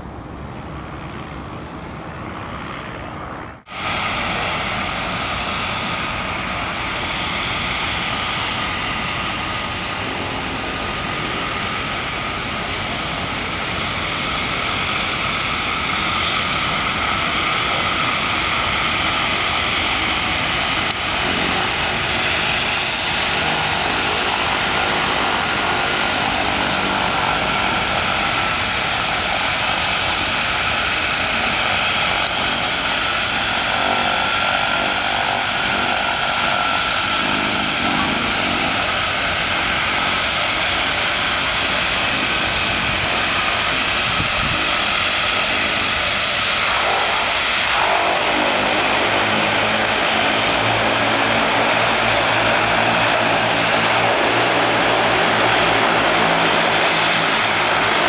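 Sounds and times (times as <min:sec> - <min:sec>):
propeller noise: 0:00.0 - 0:58.0
turbine whine: 0:00.0 - 0:58.0.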